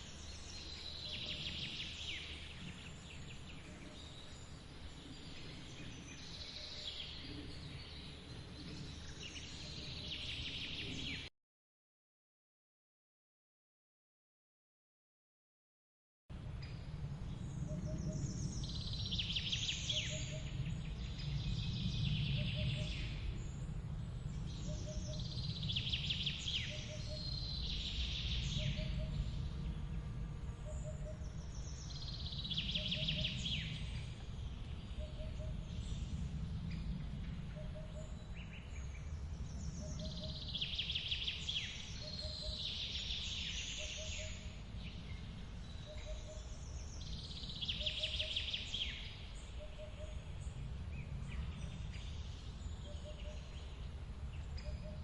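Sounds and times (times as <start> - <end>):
songbirds singing: 0.0 - 11.3, 16.4 - 55.0.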